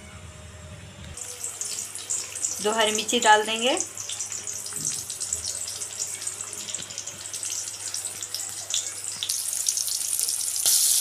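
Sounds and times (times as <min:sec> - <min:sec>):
vegetables sizzling in hot oil: 0:01.2 - 0:11.0.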